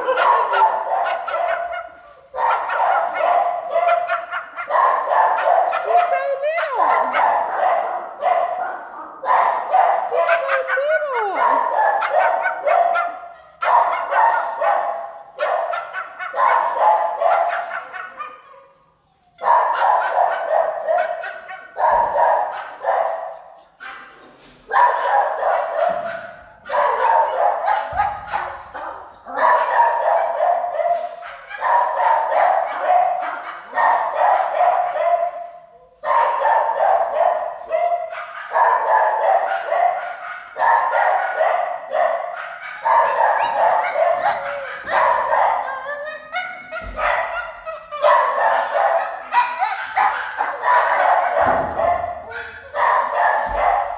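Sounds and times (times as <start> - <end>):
dogs barking with echo: 0.0 - 53.9.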